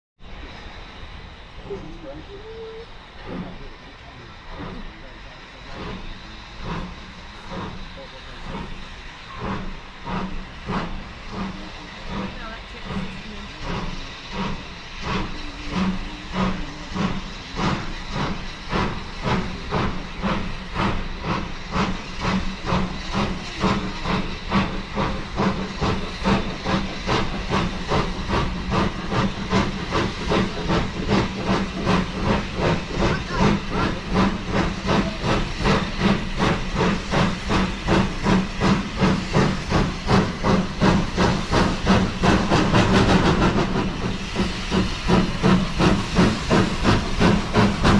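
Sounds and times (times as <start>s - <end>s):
steady steam hiss: 0.2s - 47.9s
steam locomotive chuffing: 0.2s - 47.9s.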